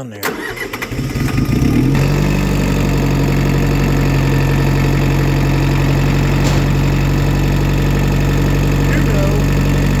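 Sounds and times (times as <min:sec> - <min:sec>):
tractor engine idling: 0:00.2 - 0:10.0.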